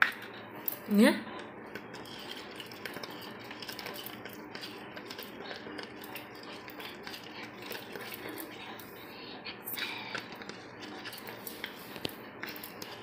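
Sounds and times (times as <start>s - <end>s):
spoon scraping plastic tub: 1.4s - 8.9s, 10.1s - 13.0s.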